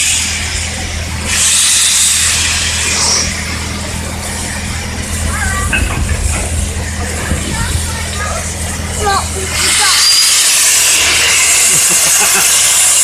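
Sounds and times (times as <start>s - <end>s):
steady low hum: 0.0s - 13.0s
steam locomotive hissing: 0.0s - 13.0s.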